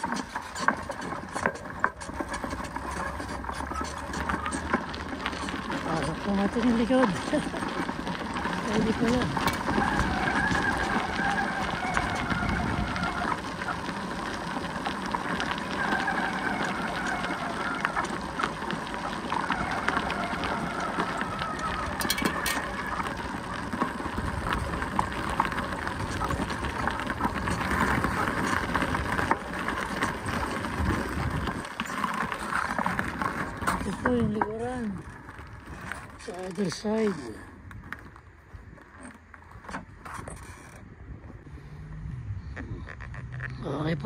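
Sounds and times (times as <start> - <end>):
bicycle tyres crunching on gravel: 0.0 - 44.0.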